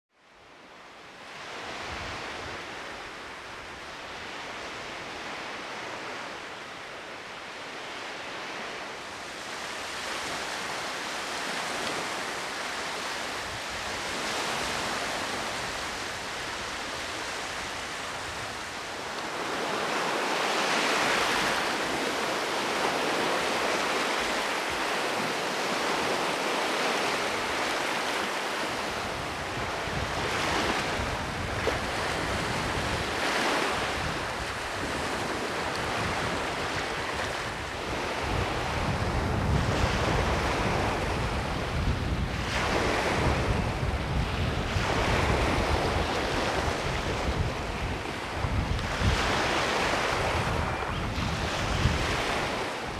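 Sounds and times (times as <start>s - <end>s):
wind rumbling on microphone: 1.2s - 52.9s
waves washing onto pebble beach: 9.0s - 52.9s.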